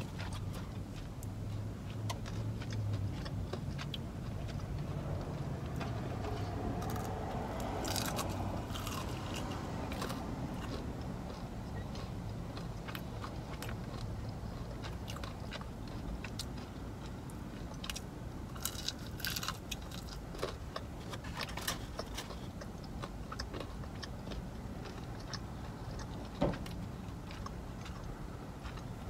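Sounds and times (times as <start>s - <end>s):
chewing and crunching fried food: 0.0s - 29.0s
steady low hum: 0.0s - 29.0s.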